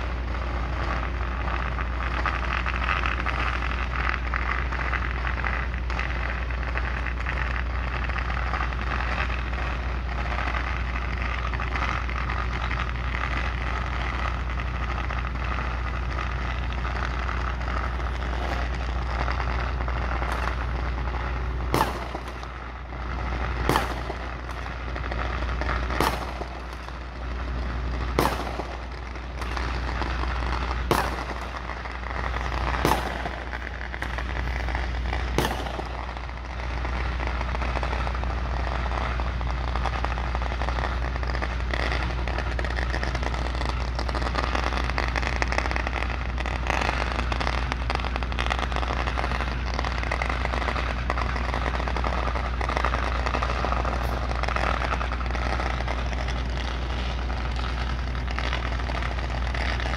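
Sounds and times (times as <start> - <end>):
fireworks bangs: 0.0 - 59.9
low engine hum: 0.0 - 59.9.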